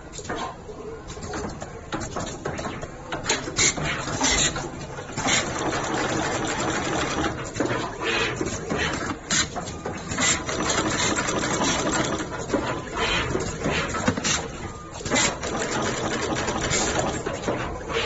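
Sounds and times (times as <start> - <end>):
steady mechanical noise: 0.0 - 18.0
machine clacking: 0.1 - 18.0.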